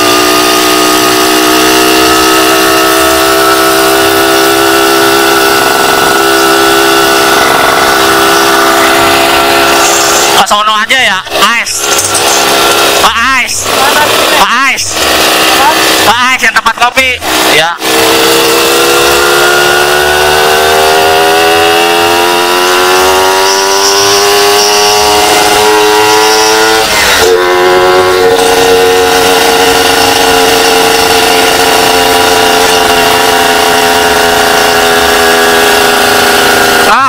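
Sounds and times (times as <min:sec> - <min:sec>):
two-stroke motorcycle engine: 0:00.0 - 0:37.0.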